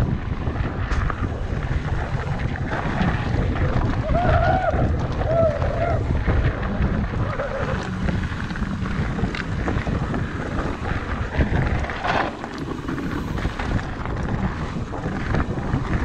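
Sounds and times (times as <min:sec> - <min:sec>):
bike ticking and rattling: 0:00.0 - 0:16.0
wind buffeting microphone: 0:00.0 - 0:16.0
tyre rumble on dirt: 0:00.8 - 0:16.0.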